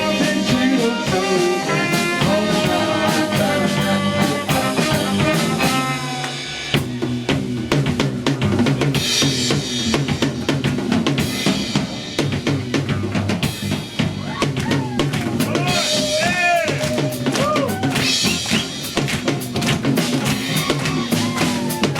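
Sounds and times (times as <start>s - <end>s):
drum kit beat: 0.0s - 21.9s
rock band playing: 0.0s - 21.9s.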